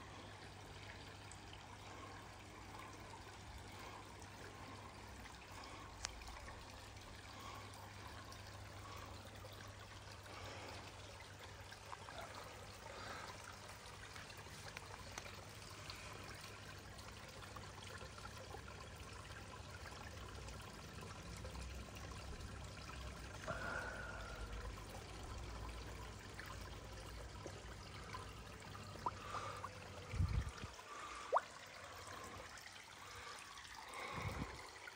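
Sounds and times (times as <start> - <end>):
water trickling into pond: 0.0 - 34.9.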